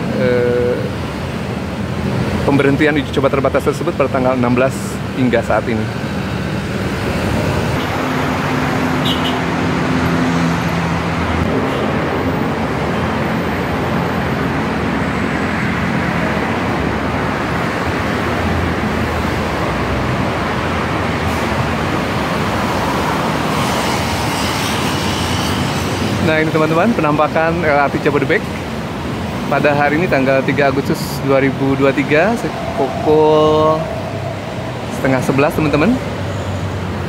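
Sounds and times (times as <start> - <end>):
dense road traffic: 0.0 - 37.0.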